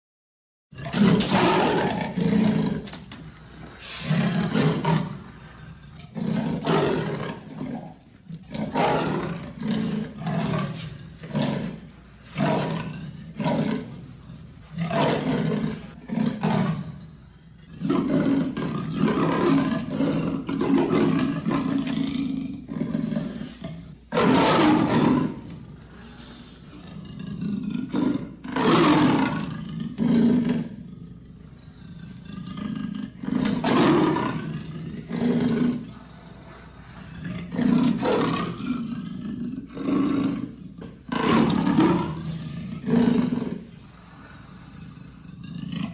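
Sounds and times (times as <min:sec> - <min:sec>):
leopard roaring: 0:00.8 - 0:45.9.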